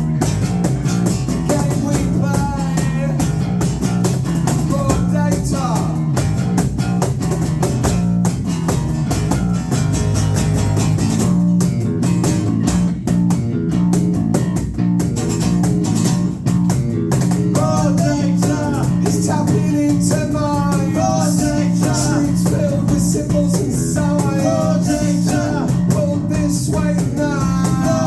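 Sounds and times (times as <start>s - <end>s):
bass guitar: 0.0s - 28.0s
drum kit beat: 0.0s - 28.0s
electric guitars: 0.0s - 28.0s.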